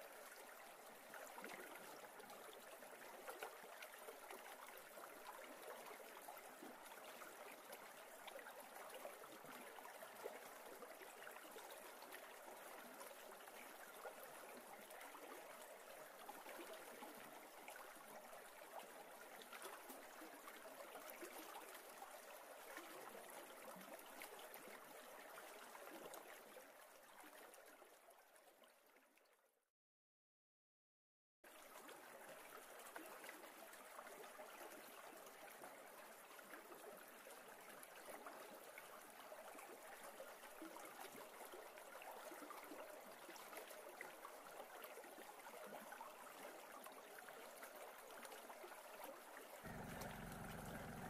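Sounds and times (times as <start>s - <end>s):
river trickling over rocks: 0.0s - 29.2s, 31.5s - 51.0s.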